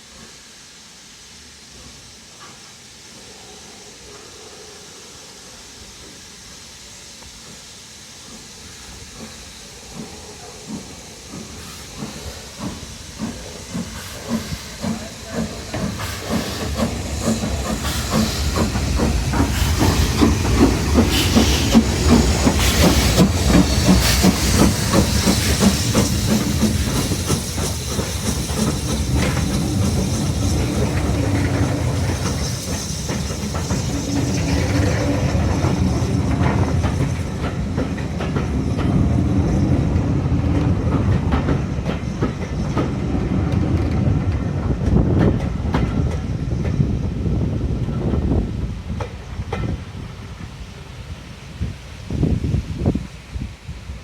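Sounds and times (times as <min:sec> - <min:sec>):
steam hissing: 0:00.0 - 0:54.0
steam locomotive exhaust beats: 0:00.0 - 0:54.0.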